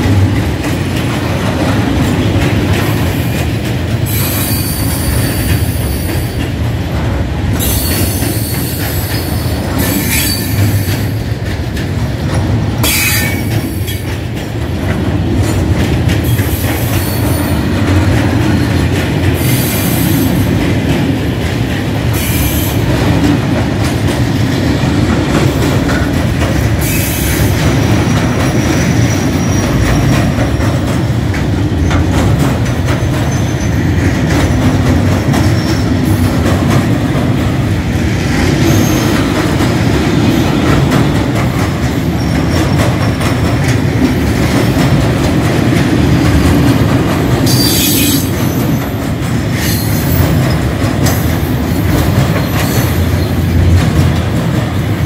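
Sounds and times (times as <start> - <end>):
freight wagons rumbling on rails: 0.0 - 55.0.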